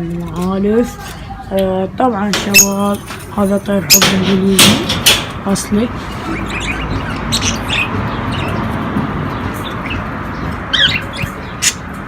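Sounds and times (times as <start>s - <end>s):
parrots chirping and squeaking: 2.3s - 12.0s.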